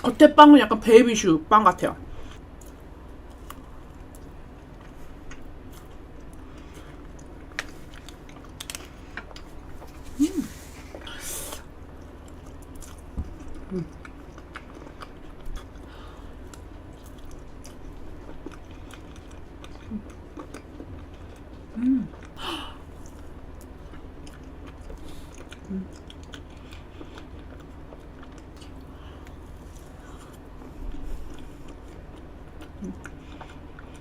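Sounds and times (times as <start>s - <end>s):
chewing with wet mouth clicks: 2.6s - 9.9s, 11.9s - 22.4s, 23.0s - 34.0s.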